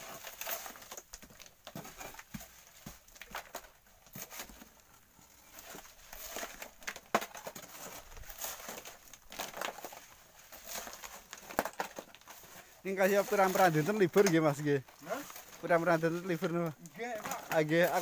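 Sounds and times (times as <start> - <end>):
gravel scraping and rattling: 0.0 - 18.0.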